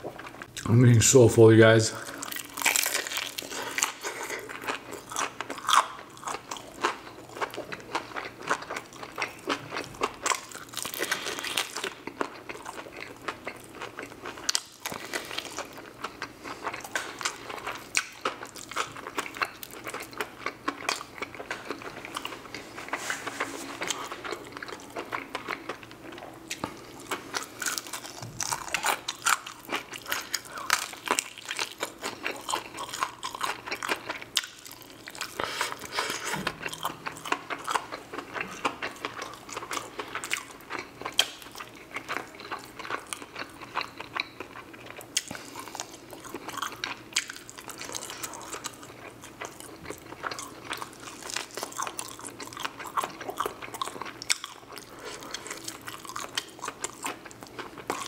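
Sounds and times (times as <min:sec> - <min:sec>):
chewing crispy fried chicken: 0:01.6 - 0:58.0.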